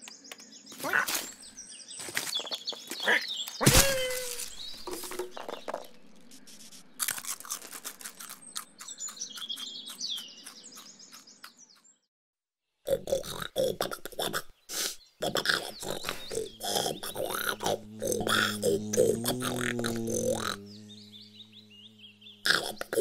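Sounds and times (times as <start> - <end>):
small bird chirping: 0.0 - 12.1, 12.9 - 23.0.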